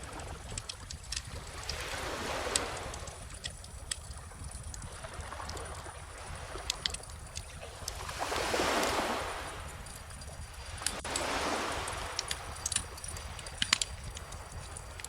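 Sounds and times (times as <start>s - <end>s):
bonfire crackling and popping: 0.0s - 15.0s
ocean waves washing on shore: 0.0s - 15.0s.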